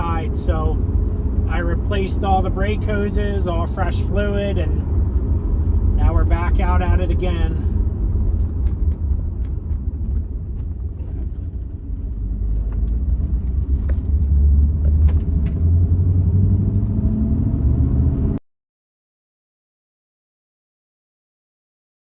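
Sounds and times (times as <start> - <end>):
car engine: 0.0 - 18.4
road noise inside car: 0.0 - 18.4.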